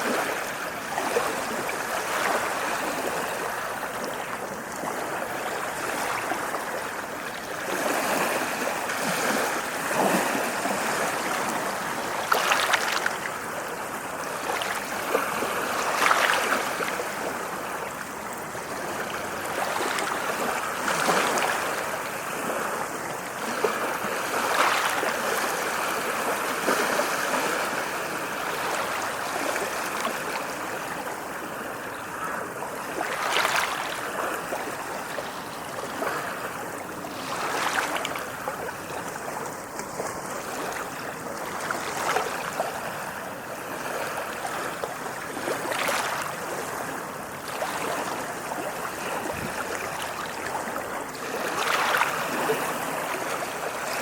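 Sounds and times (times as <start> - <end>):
ocean waves lapping on shore: 0.0 - 54.0.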